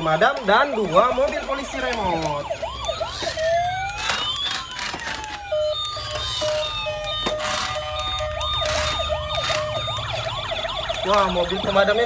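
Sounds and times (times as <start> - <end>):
toy siren wail: 0.0 - 12.0.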